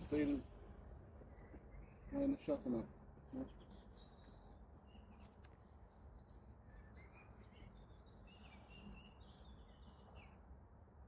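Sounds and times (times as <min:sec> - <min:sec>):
songbird warbling and chirping: 0:00.0 - 0:10.4
low steady background rumble: 0:00.0 - 0:11.0.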